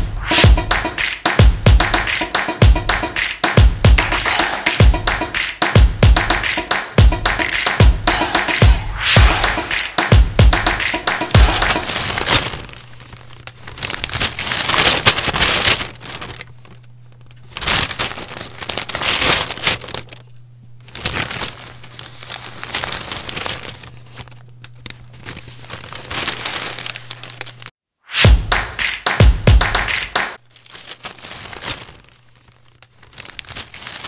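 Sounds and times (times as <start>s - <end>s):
cling wrap crinkling: 0.3s - 27.7s, 29.8s - 34.0s.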